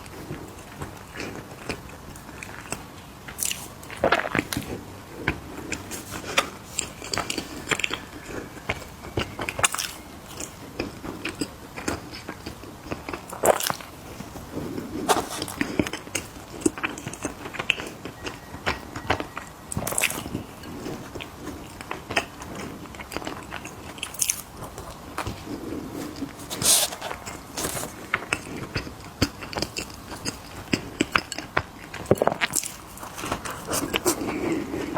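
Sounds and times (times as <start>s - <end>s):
cookies crunching while chewed: 0.0s - 34.9s.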